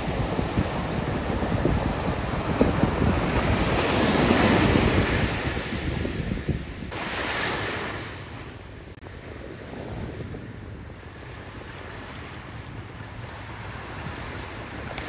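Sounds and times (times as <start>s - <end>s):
ocean waves breaking on a beach: 0.0s - 15.0s
wind buffeting the microphone: 0.0s - 15.0s.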